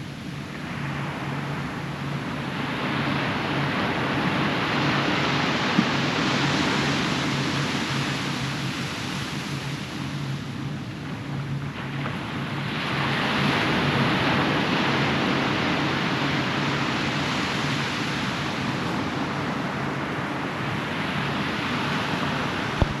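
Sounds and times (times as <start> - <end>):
ocean surf on beach: 0.0 - 23.0.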